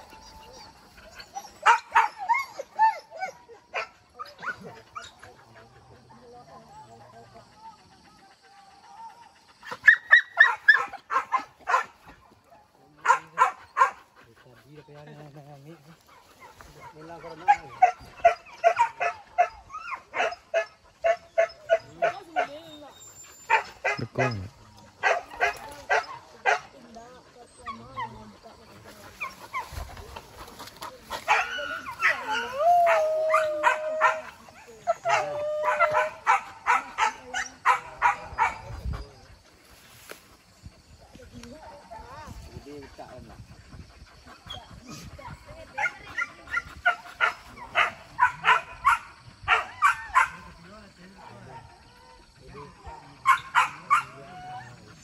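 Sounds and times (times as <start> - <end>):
dogs barking and yelping: 0.0 - 40.2, 40.8 - 55.0.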